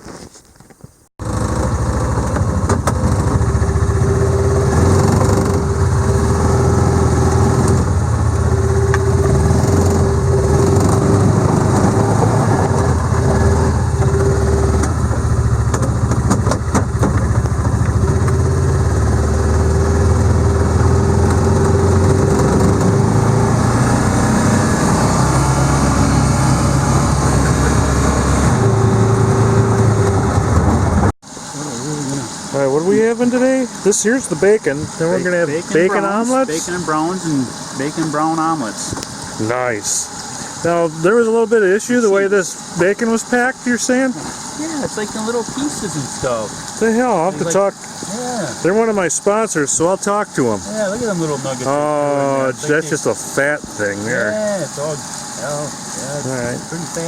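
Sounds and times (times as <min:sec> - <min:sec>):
higher engine tone: 0:01.2 - 0:57.0
vehicle engine running while driving: 0:01.2 - 0:57.0.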